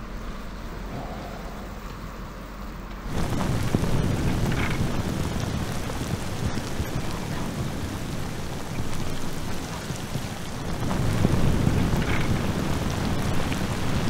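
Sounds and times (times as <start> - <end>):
low rumble: 0.0 - 14.0
steady rain on wet paving: 0.0 - 14.0.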